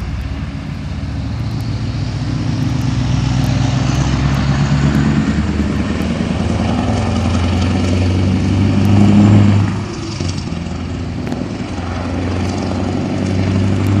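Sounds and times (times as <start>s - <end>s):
truck engine pulling away: 0.0s - 14.0s.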